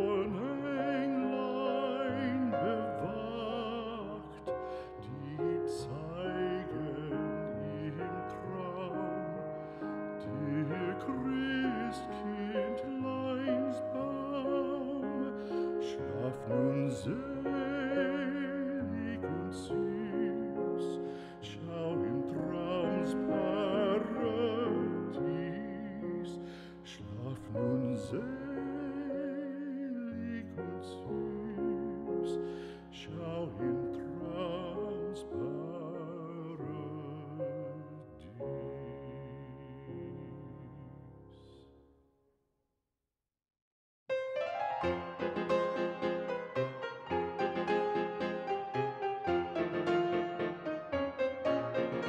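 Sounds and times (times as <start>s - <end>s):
operatic classical music: 0.0s - 41.6s, 44.1s - 52.0s.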